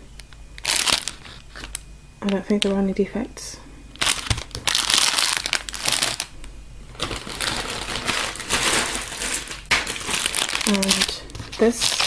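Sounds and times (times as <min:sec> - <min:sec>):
plastic packaging crinkling: 0:00.6 - 0:02.8, 0:03.9 - 0:12.0.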